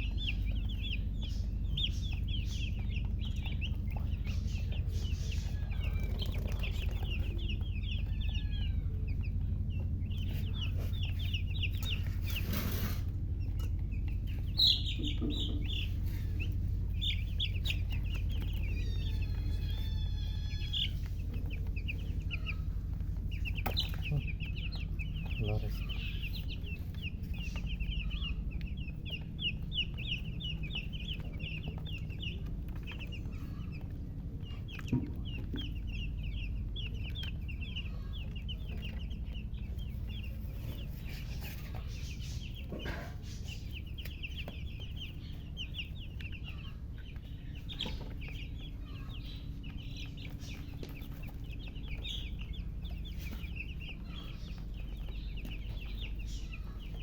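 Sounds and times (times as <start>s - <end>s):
chicks peeping: 0.0s - 57.0s
steady low hum: 0.0s - 57.0s.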